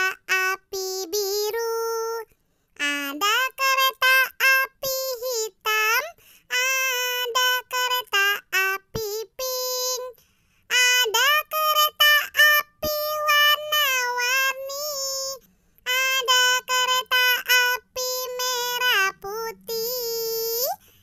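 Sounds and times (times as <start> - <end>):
child-like voice singing: 0.0 - 21.0.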